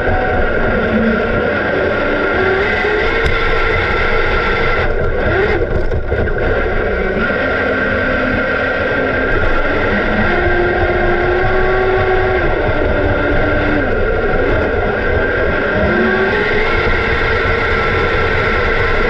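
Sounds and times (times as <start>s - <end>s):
boat motor whine: 0.0s - 19.0s.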